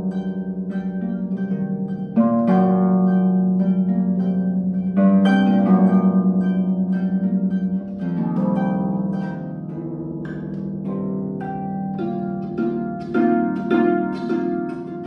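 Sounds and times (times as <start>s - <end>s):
harp playing: 0.0s - 15.0s.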